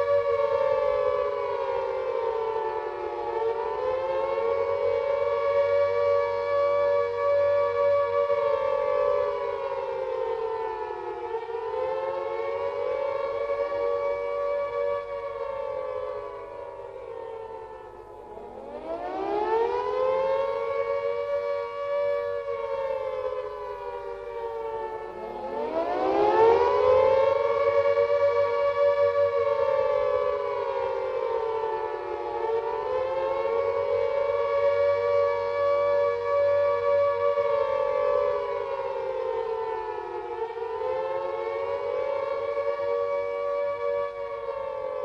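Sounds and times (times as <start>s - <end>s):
air raid siren wailing: 0.0s - 45.0s.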